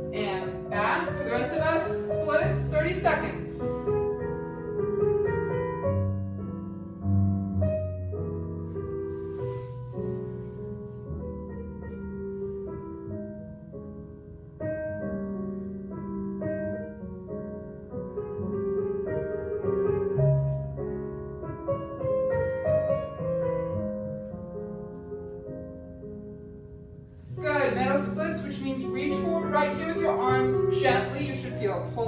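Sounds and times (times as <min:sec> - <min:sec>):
jazz piano music: 0:00.0 - 0:32.0.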